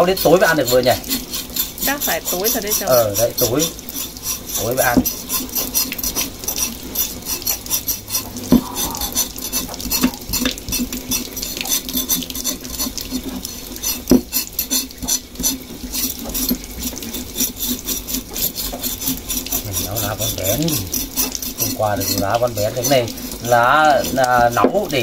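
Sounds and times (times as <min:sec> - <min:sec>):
scraping pork skin: 0:00.0 - 0:25.0.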